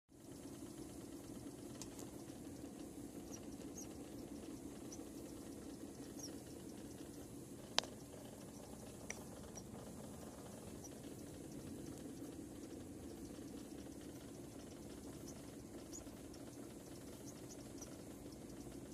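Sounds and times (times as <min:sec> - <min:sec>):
steady low hum: 0:00.1 - 0:18.9
faint high-pitched squeaky chirps: 0:00.2 - 0:18.9.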